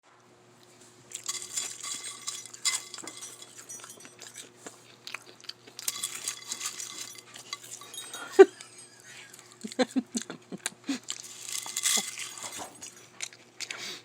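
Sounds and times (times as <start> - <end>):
crunchy chips being chewed: 1.1 - 14.0.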